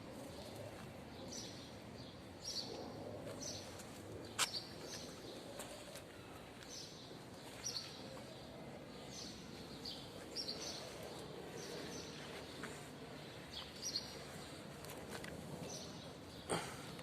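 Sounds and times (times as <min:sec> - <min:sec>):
outdoor background hum: 0:00.0 - 0:17.0
small birds chirping: 0:00.4 - 0:17.0.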